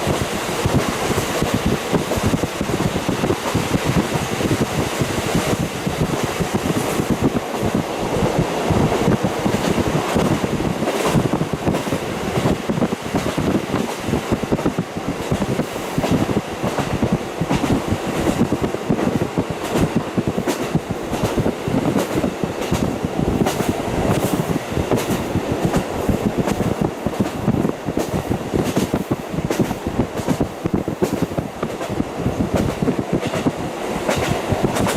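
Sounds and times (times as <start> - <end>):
train running noise: 0.0 - 34.9
train wheels clicking over rail joints: 0.0 - 34.9
wind noise: 0.0 - 34.9.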